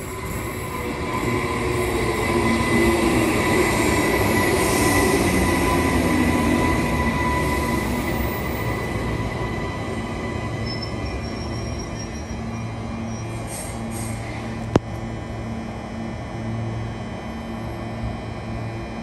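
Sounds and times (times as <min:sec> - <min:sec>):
train wheels rumbling on rails: 0:00.0 - 0:15.2
electric train whine: 0:00.0 - 0:19.0.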